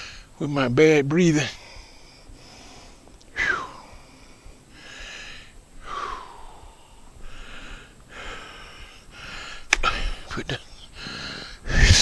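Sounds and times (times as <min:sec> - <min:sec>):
man breathing hard and wheezing: 0:00.0 - 0:00.4, 0:01.5 - 0:12.0.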